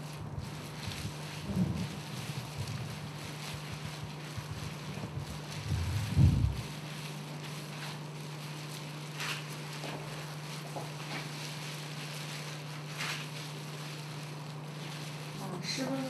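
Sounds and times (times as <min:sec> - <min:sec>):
low electrical hum: 0:00.0 - 0:16.0
soft rustles of gloved hands: 0:00.0 - 0:16.0.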